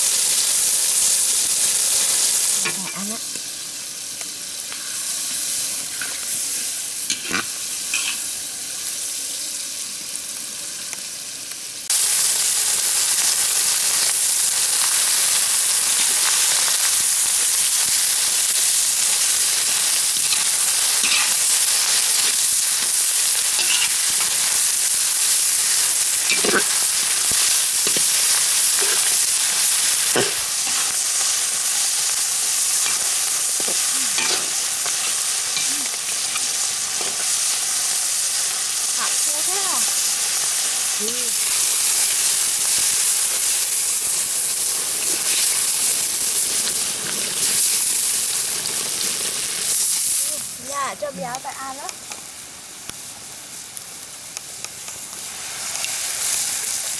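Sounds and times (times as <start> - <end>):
vegetables sizzling in a wok: 0.0 - 56.9.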